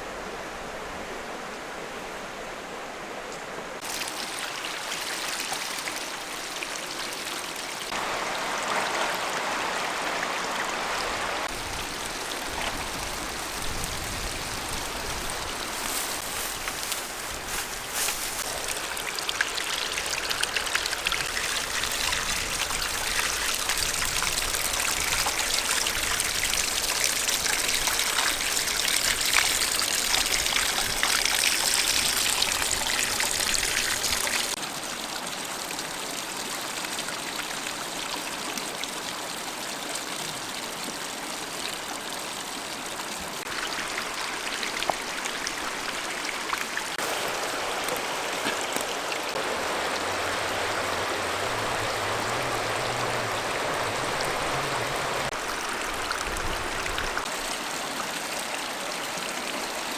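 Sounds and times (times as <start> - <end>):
water trickling and splashing: 3.8 - 59.9.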